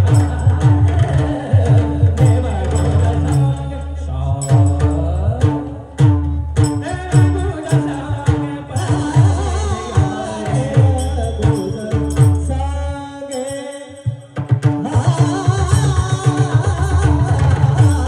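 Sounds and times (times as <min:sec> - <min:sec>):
devotional singing: 0:00.0 - 0:06.0, 0:06.8 - 0:14.2, 0:14.8 - 0:18.0.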